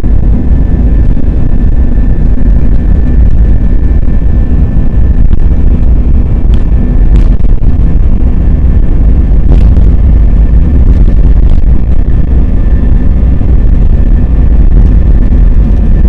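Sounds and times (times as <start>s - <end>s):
engine whine: 0.0s - 16.0s
jet engines deep rumble: 0.0s - 16.0s.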